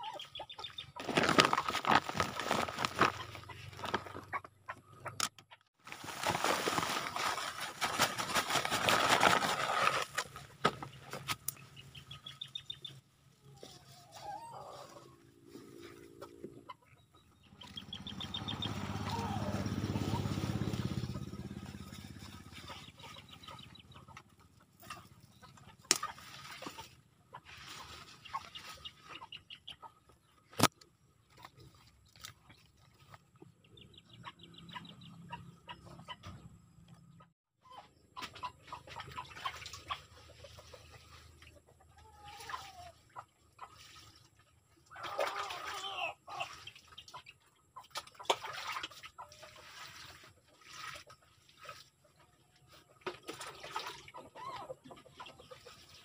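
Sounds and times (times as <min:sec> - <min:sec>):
chickens clucking: 0:00.0 - 0:05.6, 0:06.2 - 0:56.0.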